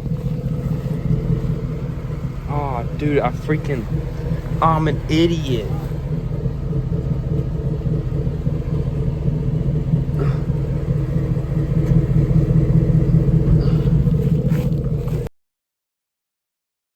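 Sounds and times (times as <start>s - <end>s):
truck engine rumbling: 0.0s - 15.3s.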